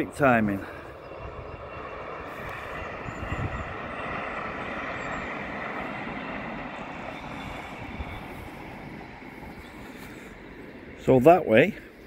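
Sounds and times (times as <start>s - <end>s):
train rumbling over a viaduct: 0.0s - 12.0s.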